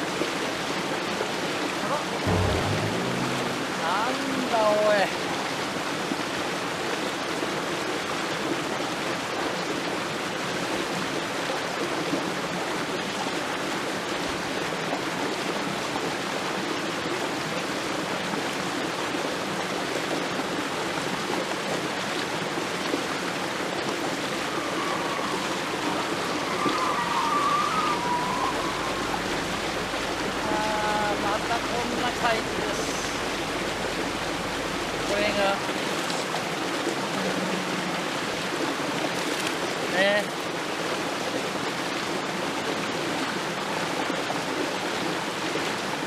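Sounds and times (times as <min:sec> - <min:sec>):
stream rushing over rocks: 0:00.0 - 0:46.0.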